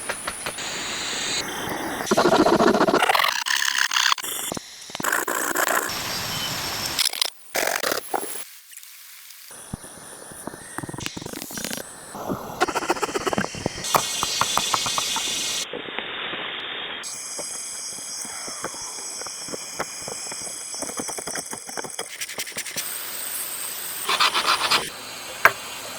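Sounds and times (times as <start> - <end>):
hiss of wood being cut: 0.0 - 7.0, 9.6 - 15.6, 17.0 - 25.8.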